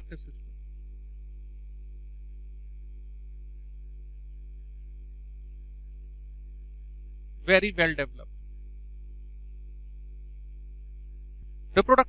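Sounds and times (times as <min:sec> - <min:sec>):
light hiss: 0:00.0 - 0:12.0
low electrical hum: 0:00.0 - 0:12.0.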